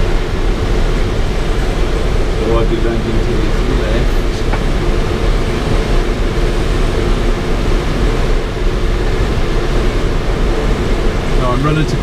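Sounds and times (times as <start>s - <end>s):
airflow rushing past canopy: 0.0s - 12.0s.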